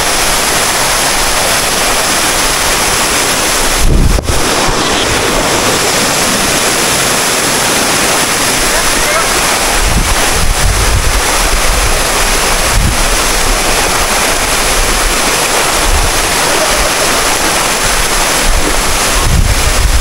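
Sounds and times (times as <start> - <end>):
waterfall rushing: 0.0 - 20.0
wind rumble on microphone: 2.5 - 20.0.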